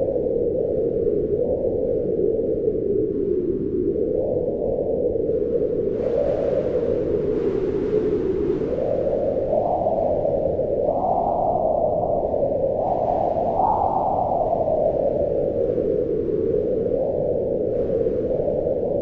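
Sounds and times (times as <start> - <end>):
howling wind: 0.0 - 19.0.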